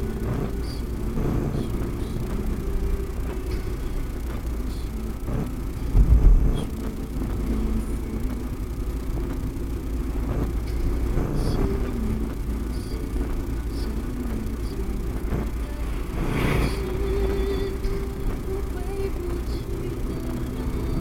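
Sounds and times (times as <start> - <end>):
car rumble while driving: 0.0 - 21.0.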